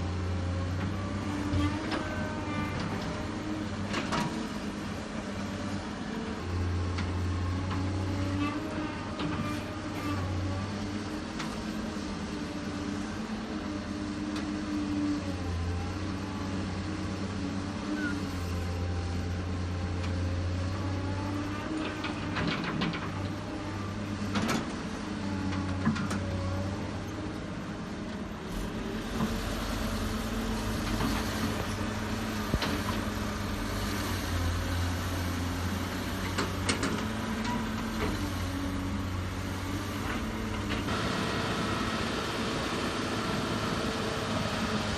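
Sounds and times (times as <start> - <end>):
heavy machinery diesel engine: 0.0 - 44.9.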